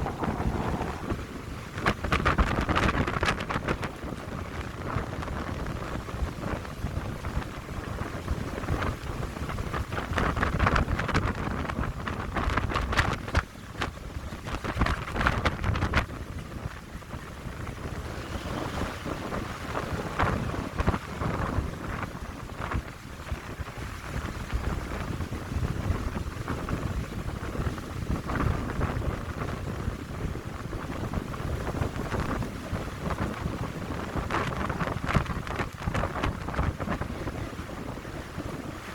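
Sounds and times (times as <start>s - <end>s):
wind buffeting microphone: 0.0s - 38.9s
wind rushing through pine trees: 0.0s - 38.9s.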